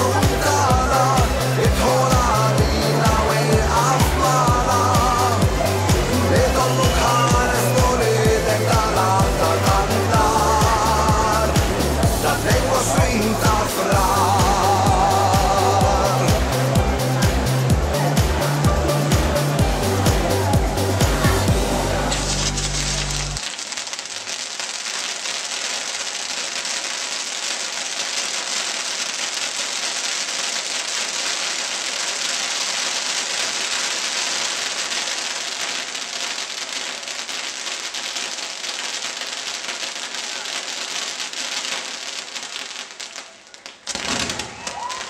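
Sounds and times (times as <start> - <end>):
firework sparks hissing and crackling: 0.0 - 45.0.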